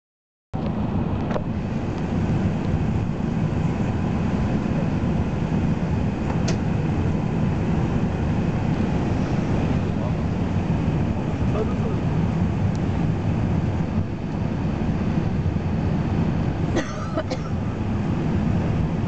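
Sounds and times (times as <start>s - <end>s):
airplane cabin rumble: 0.6s - 19.0s.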